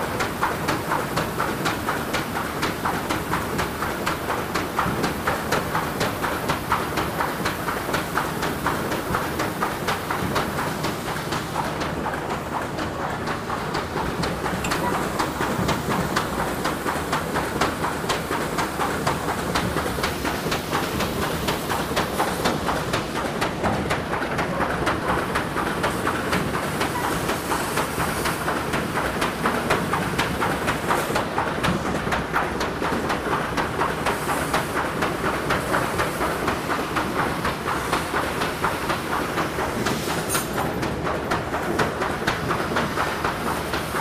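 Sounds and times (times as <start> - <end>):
machine clacking rhythmically: 0.0 - 44.0.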